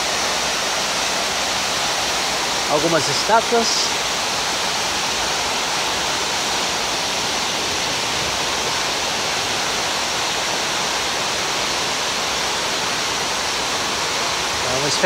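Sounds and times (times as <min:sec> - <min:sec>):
fountain water cascading: 0:00.0 - 0:15.0.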